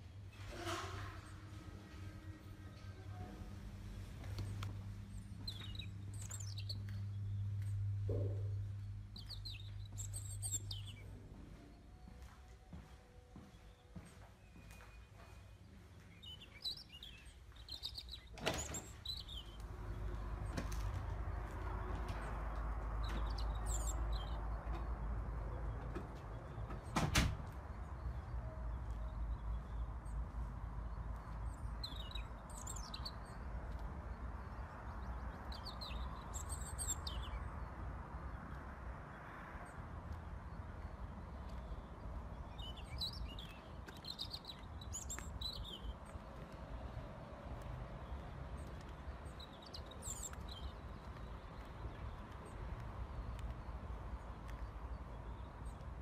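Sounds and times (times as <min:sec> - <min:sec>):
small birds chirping: 0:01.1 - 0:56.0.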